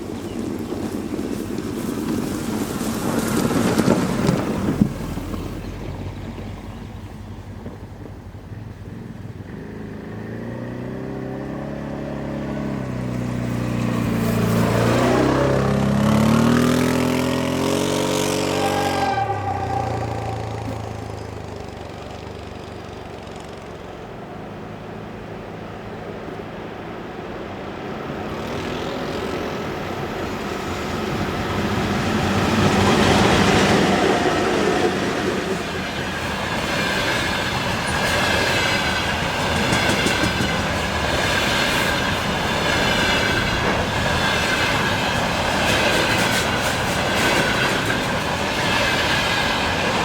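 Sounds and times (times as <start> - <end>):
electric locomotive droning hum: 0.0 - 50.0
wheels rumbling on rails: 0.0 - 50.0.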